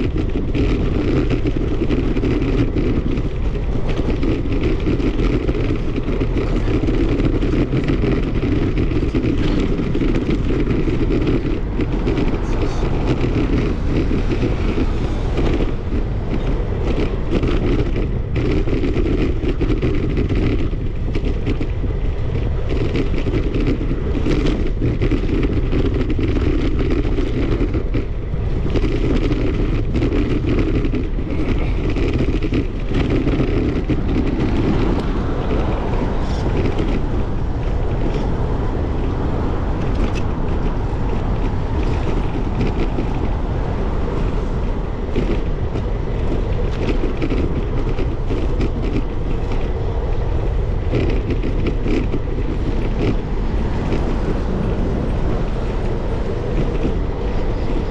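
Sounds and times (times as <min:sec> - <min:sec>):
bicycle rolling: 0:00.0 - 0:57.9
wind rushing: 0:00.0 - 0:57.9.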